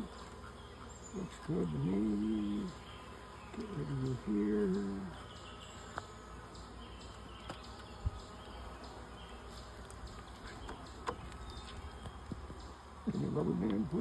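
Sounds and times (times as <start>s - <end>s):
bees buzzing: 0.0s - 14.0s
light clicks of hive frames: 0.1s - 14.0s.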